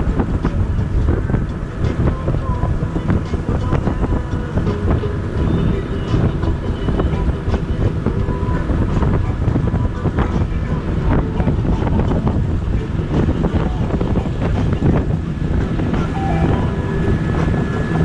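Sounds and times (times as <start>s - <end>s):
steady motor hum: 0.0s - 18.0s
wind buffeting microphone: 0.0s - 18.0s.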